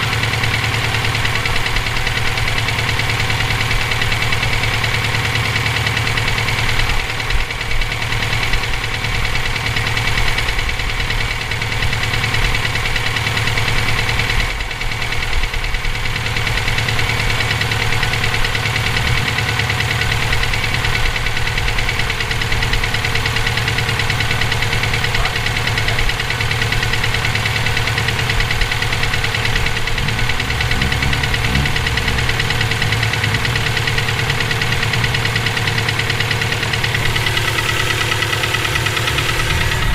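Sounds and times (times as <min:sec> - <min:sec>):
car engine running: 0:00.0 - 0:39.9
engine knocking: 0:00.0 - 0:39.9.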